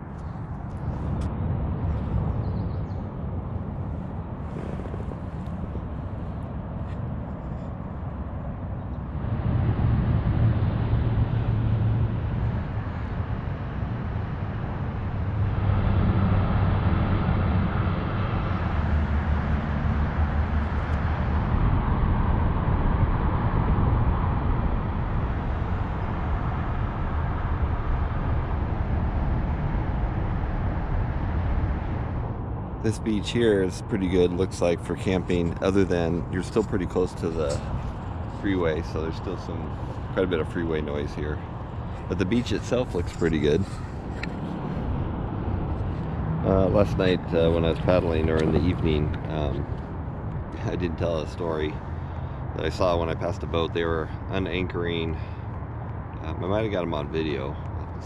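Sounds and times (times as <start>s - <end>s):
distant freeway traffic: 0.0s - 58.0s.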